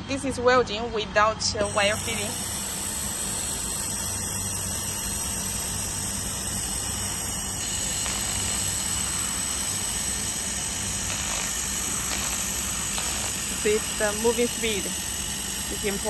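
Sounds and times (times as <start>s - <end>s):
low hum: 0.0s - 16.0s
laser welder hissing: 1.6s - 16.0s.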